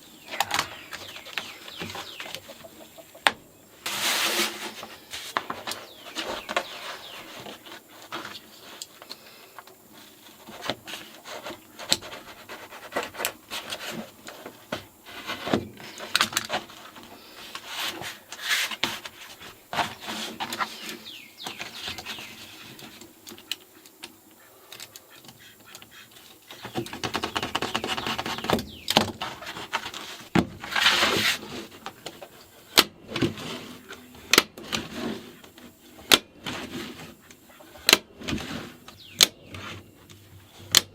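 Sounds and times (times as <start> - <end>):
vinyl sheet rustling: 3.8 - 23.8, 26.2 - 40.8.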